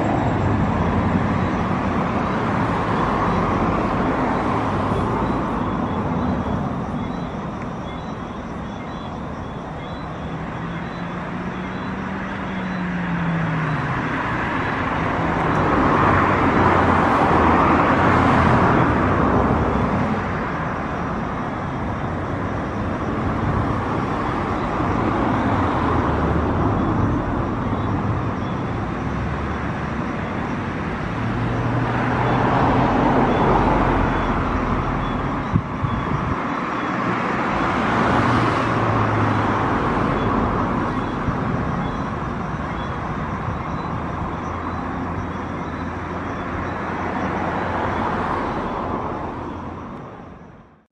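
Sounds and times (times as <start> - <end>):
low traffic rumble: 0.0 - 50.9
vehicles passing: 0.0 - 50.9.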